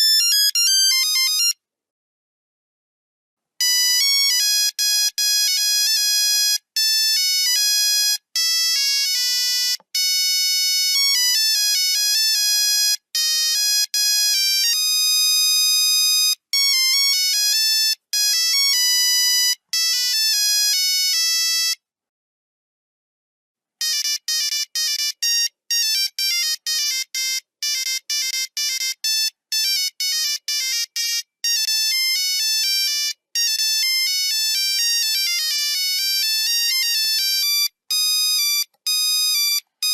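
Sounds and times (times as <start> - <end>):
electronic phone ringtone melody: 0.0 - 1.6, 3.6 - 21.8, 23.8 - 39.9.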